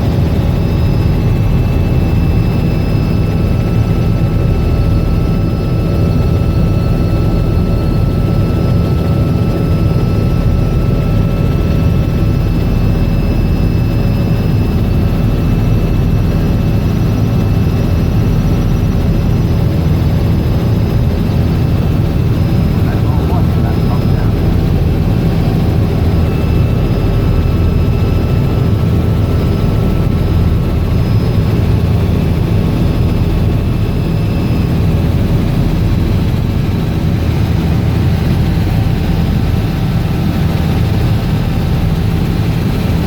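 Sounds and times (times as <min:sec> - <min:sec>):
helicopter rotor drone: 0:00.0 - 0:43.0
turbine engine whine: 0:00.0 - 0:43.0.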